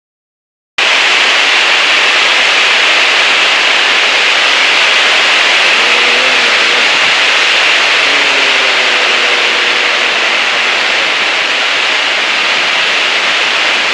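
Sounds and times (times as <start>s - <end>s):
heavy rain in strong wind: 0.8s - 13.9s.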